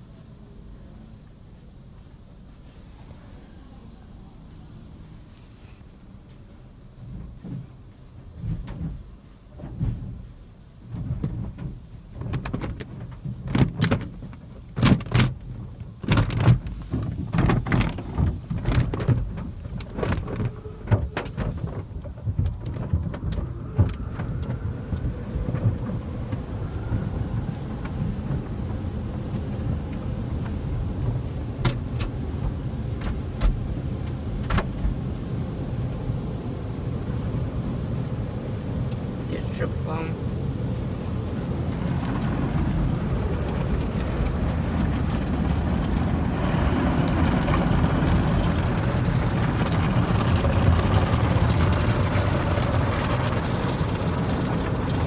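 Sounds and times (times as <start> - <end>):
wash strips slapping car: 4.8 - 39.6, 40.2 - 55.0.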